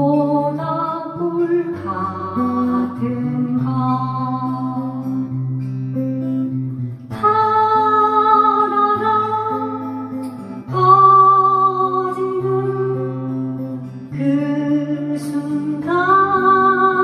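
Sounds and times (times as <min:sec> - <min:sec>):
acoustic guitar in waltz rhythm: 0:00.0 - 0:17.0.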